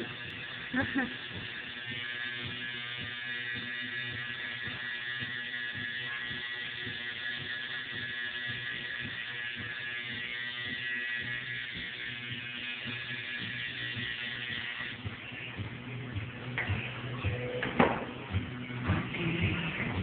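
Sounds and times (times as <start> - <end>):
tattoo machine buzzing: 0.0 - 20.0.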